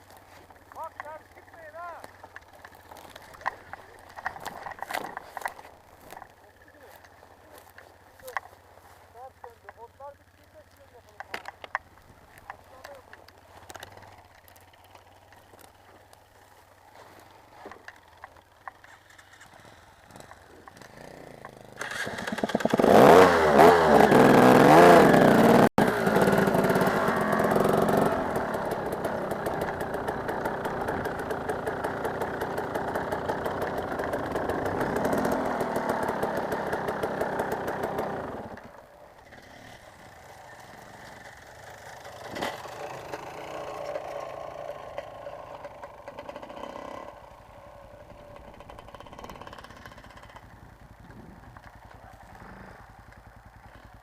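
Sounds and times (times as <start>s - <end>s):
dirt bike engine revving: 0.5s - 54.0s.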